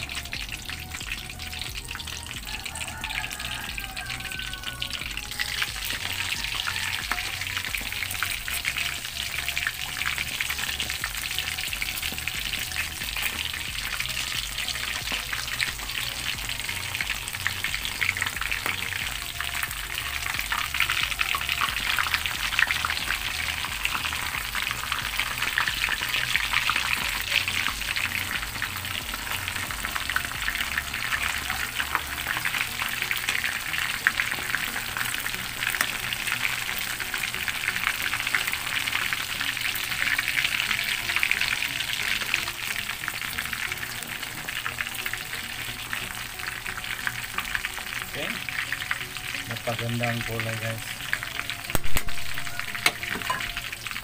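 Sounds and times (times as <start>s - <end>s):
deep-frying crackling sizzle: 0.0s - 54.0s.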